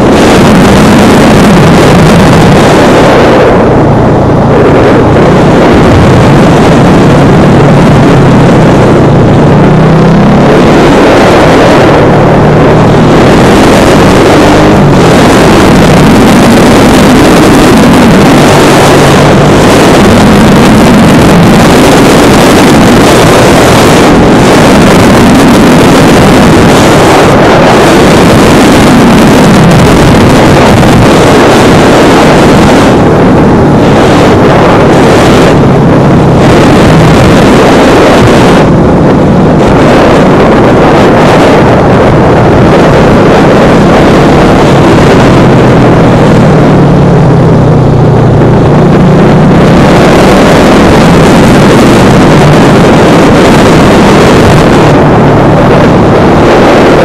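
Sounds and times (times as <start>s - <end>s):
motorcycle engine revving: 0.0s - 57.0s
wind rushing over microphone: 0.0s - 57.0s.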